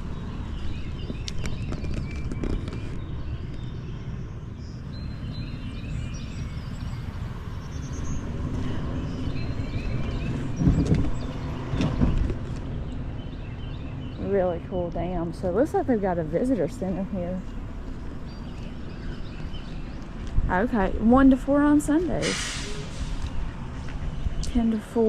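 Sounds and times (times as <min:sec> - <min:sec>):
small birds chirping: 0:00.0 - 0:21.9
low outdoor rumble: 0:00.0 - 0:25.0.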